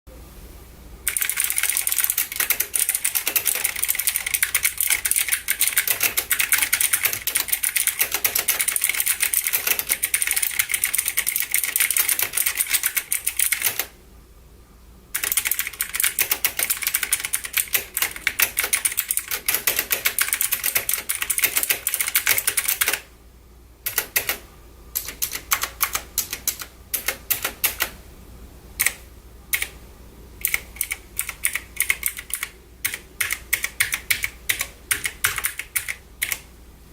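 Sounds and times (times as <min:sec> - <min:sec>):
mechanical keyboard typing: 0:01.1 - 0:14.0, 0:15.2 - 0:23.0, 0:23.9 - 0:24.4, 0:25.0 - 0:28.0, 0:28.8 - 0:29.8, 0:30.4 - 0:36.5.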